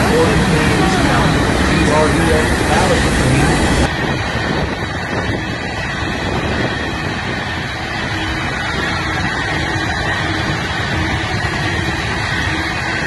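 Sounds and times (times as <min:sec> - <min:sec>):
freight train rumbling past: 0:00.0 - 0:13.0
wind on microphone: 0:00.0 - 0:13.0.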